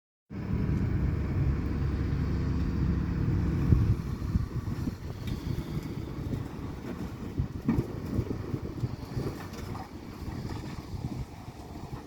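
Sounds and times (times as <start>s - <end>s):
heavy diesel truck engine rumbling: 0.3s - 12.0s.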